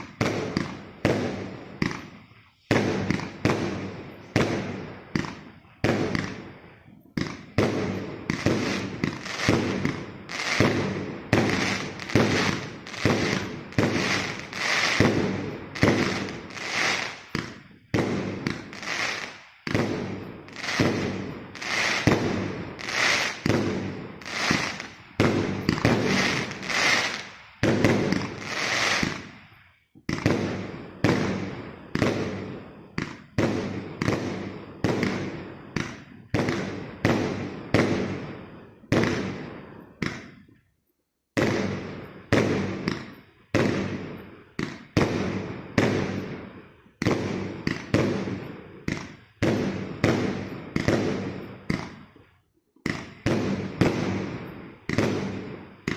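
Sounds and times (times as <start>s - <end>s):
fireworks cake firing bangs: 0.0s - 29.4s, 30.0s - 40.5s, 41.4s - 52.1s, 52.8s - 55.9s.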